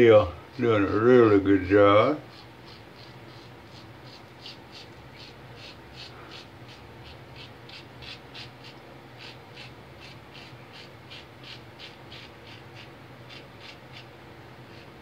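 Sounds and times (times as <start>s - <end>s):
razor scraping stubble: 0.1s - 14.1s, 14.7s - 15.0s.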